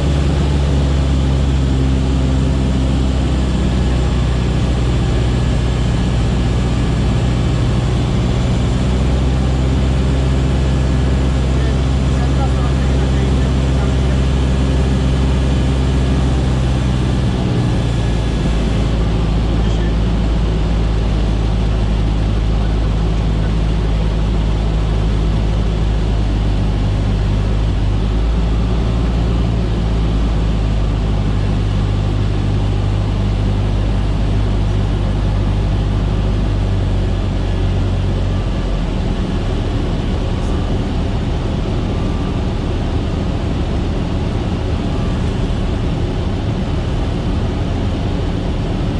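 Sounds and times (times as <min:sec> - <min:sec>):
airplane engine droning: 0:00.0 - 0:48.9.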